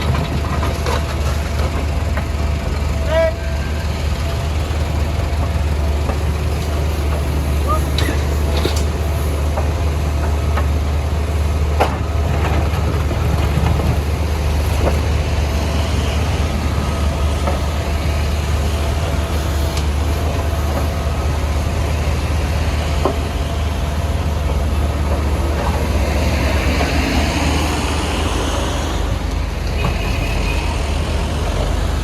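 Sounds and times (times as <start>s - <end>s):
diesel engine droning: 0.0s - 32.0s.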